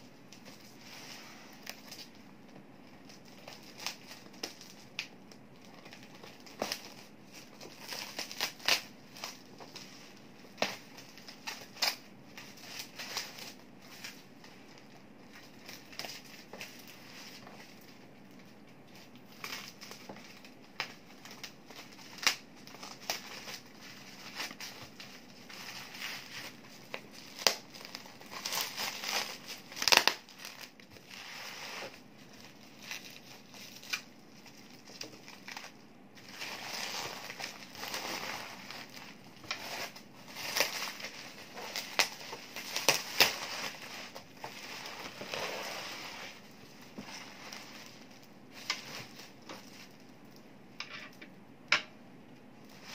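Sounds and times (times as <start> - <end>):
plastic packaging crinkling: 0.2 - 50.5, 52.6 - 52.9
sharp plastic crackles: 0.2 - 52.0.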